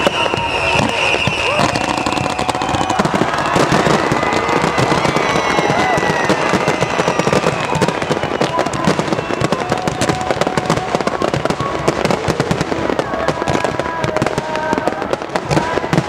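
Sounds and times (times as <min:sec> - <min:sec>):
fireworks crackling and bursting: 0:00.0 - 0:16.0
fireworks whistling: 0:00.0 - 0:16.0.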